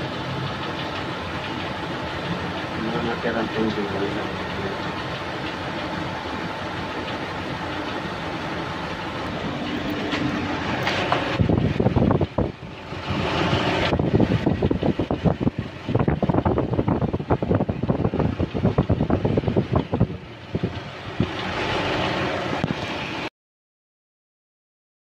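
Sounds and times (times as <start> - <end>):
vehicle engine humming: 0.0 - 23.3.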